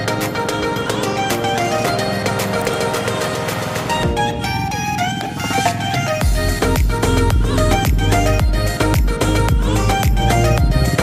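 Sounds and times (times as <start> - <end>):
plucked string music with beat: 0.0 - 11.0.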